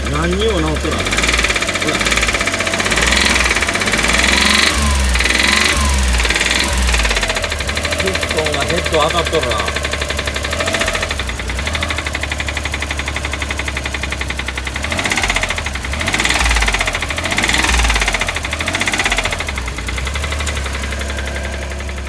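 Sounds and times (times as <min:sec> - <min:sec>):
engine running with rattling knock: 0:00.0 - 0:22.0.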